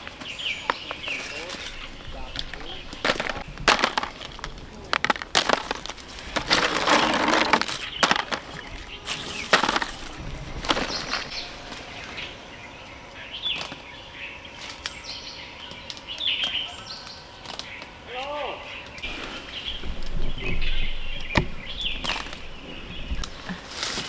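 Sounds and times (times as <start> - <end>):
birds chirping: 0.0 - 24.0
leafy branches rustling: 0.0 - 24.0
twigs cracking and snapping: 0.0 - 24.0.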